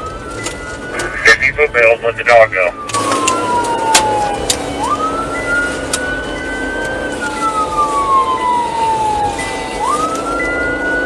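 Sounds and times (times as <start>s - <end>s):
police siren wailing: 0.0s - 11.0s
vehicle noise: 0.0s - 11.0s.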